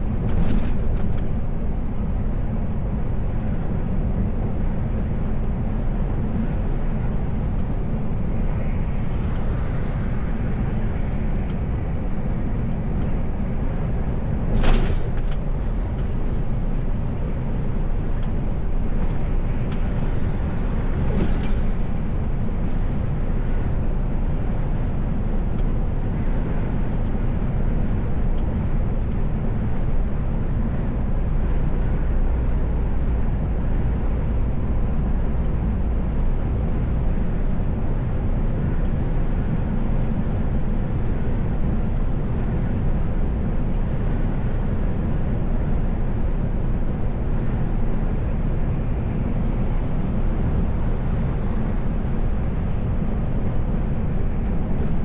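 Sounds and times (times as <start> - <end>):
truck engine and tyres droning: 0.0 - 55.0.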